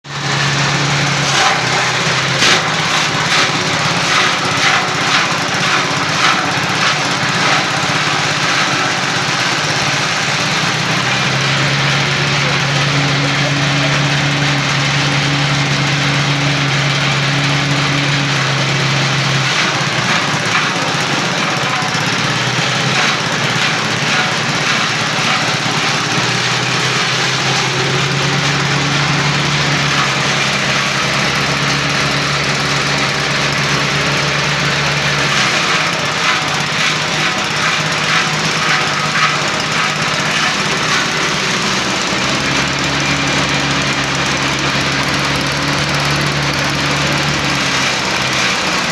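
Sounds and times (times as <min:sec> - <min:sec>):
small engine running: 0:00.0 - 0:48.9
rough noisy chopping sound: 0:00.1 - 0:48.9.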